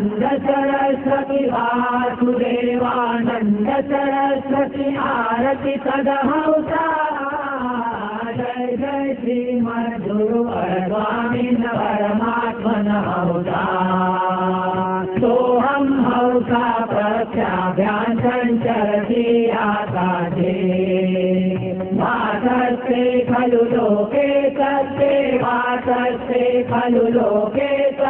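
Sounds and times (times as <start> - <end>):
men chanting devotional song: 0.0 - 28.0.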